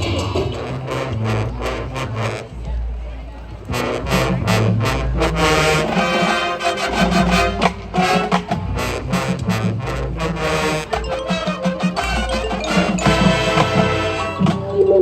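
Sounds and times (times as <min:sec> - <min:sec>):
drums: 0:00.0 - 0:15.0
marching band playing: 0:00.0 - 0:15.0.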